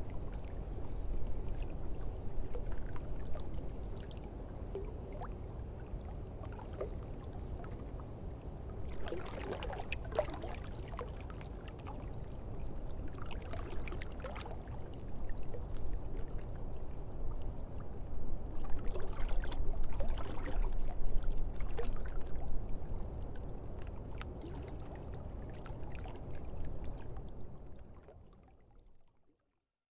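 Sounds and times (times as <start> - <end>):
water lapping and sloshing: 0.0 - 29.3.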